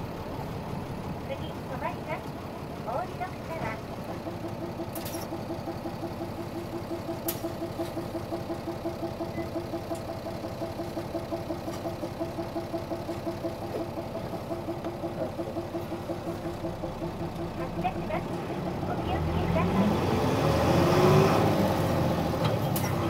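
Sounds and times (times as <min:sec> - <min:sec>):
diesel bus engine idling: 0:00.0 - 0:23.0.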